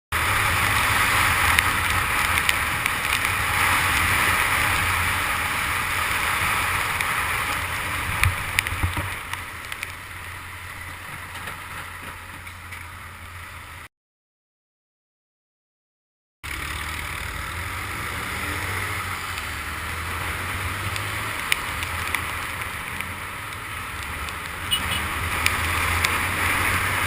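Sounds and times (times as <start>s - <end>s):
motorcycle engine hum: 0.2s - 13.9s, 16.4s - 27.0s.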